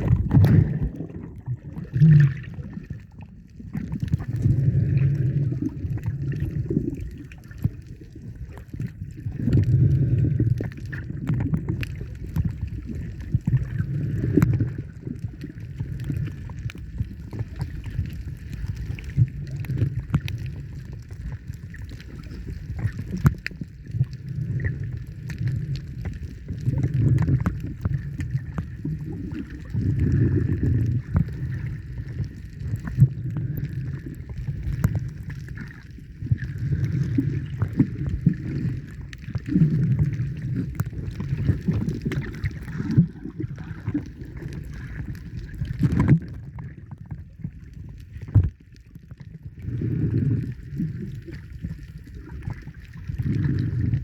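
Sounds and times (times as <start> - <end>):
muffled water sloshing: 0.0 - 54.0.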